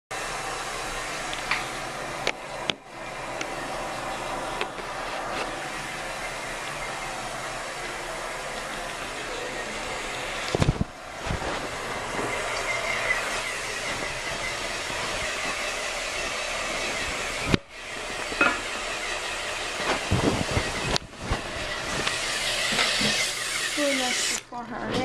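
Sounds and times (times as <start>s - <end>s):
toilet tank refilling hiss: 0.1s - 24.5s.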